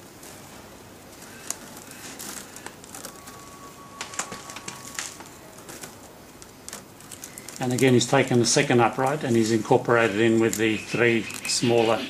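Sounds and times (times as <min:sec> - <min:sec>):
wicker crackling and clicking: 0:00.0 - 0:12.0.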